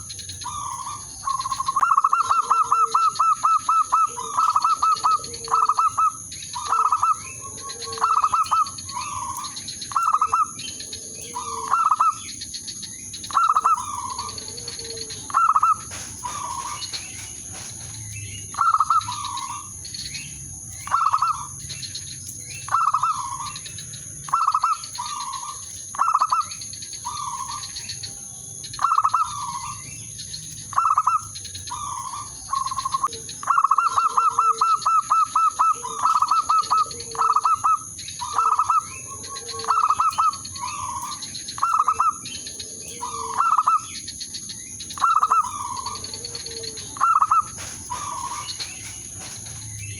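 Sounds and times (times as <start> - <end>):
dove cooing: 0.0 - 28.2, 28.8 - 29.9, 30.7 - 44.1, 45.0 - 49.9.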